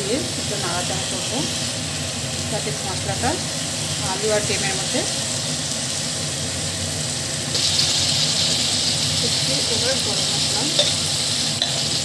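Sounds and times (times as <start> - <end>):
spices sizzling in a pan: 0.0 - 12.0.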